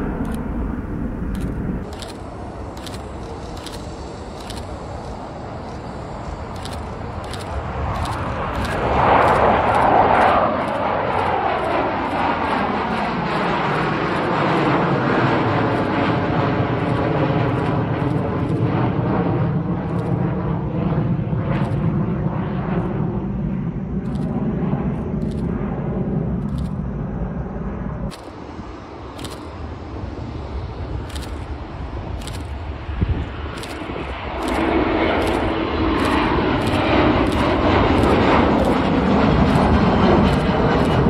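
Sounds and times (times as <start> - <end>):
distant jet sound: 0.0 - 41.0
jet airplane roar: 0.0 - 41.0.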